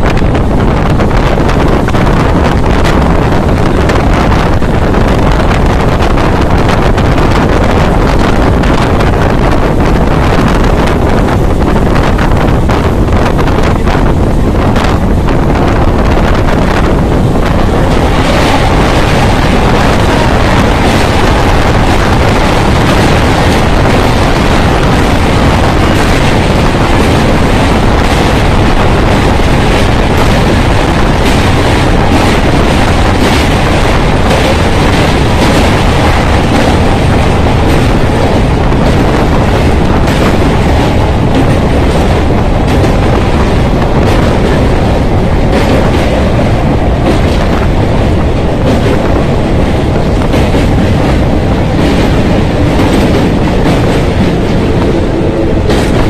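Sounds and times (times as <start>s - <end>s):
train running on rails: 0.0s - 56.0s
wind buffeting microphone: 0.0s - 56.0s.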